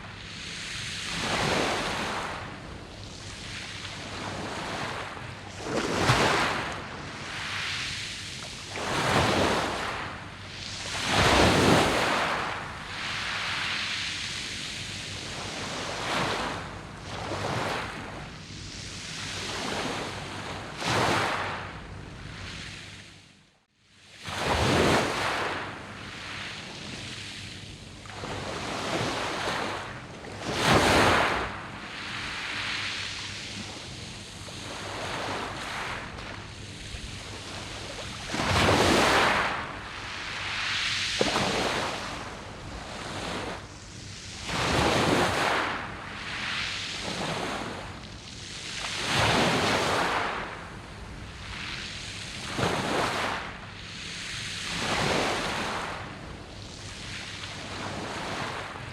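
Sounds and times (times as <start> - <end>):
waves washing over pebbles: 0.2 - 18.2, 24.2 - 58.9.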